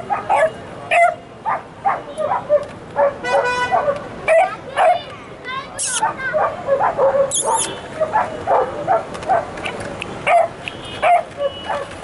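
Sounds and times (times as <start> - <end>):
dogs barking: 0.0 - 5.0, 5.8 - 9.6, 10.2 - 12.0.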